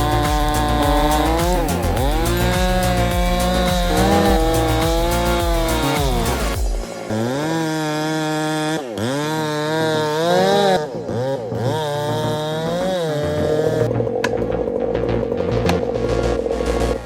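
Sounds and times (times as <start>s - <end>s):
chainsaw engine revving and bogging: 0.0s - 14.2s.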